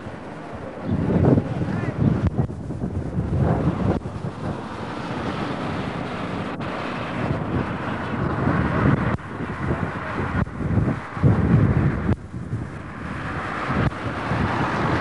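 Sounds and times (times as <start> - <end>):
vehicle passing on road: 0.0 - 15.0
wind buffeting microphone: 0.0 - 15.0.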